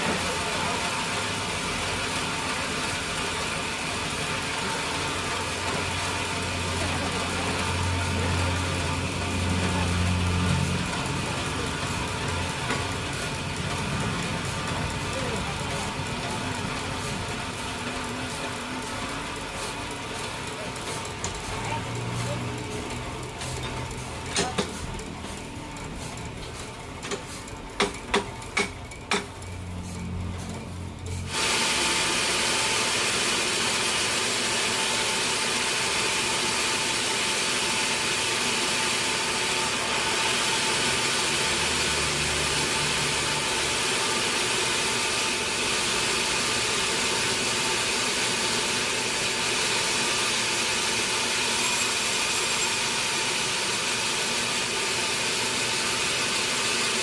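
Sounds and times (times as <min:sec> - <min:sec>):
sawmill saw cutting log: 0:00.0 - 0:28.7, 0:31.2 - 0:57.0.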